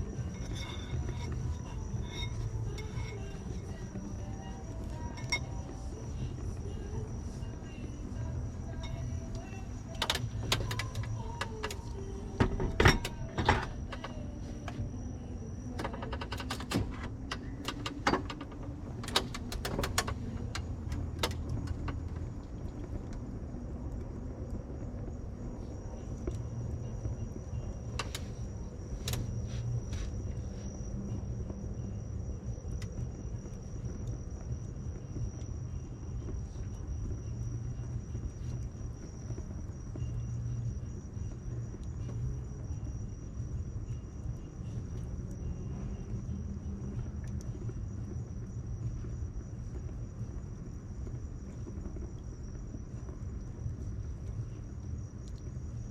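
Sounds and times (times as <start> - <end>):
high insect trill: 0.0 - 23.8, 24.8 - 55.9
low steady rumble: 0.0 - 55.9.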